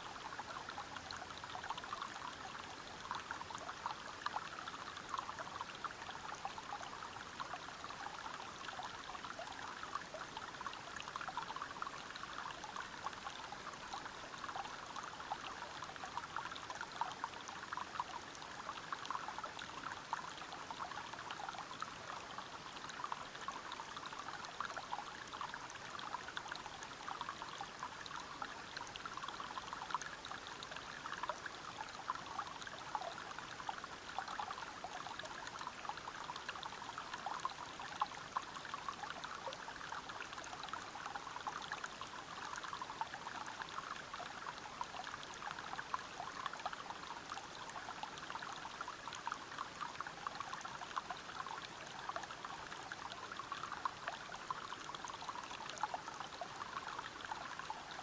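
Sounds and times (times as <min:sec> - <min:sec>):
stream water splashing over rocks: 0:00.0 - 0:58.0.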